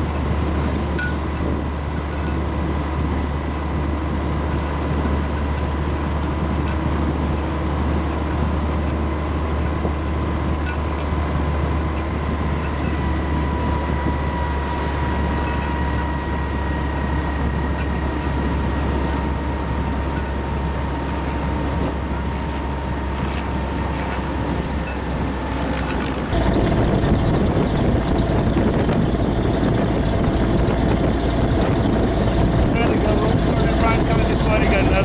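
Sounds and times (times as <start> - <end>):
drivetrain high whine: 0.0 - 35.0
vehicle engine rumble: 0.0 - 35.0.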